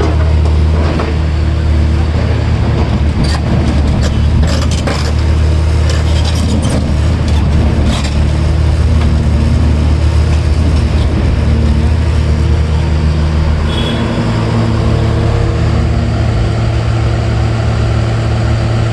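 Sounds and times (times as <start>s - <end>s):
diesel excavator engine running: 0.0s - 18.9s.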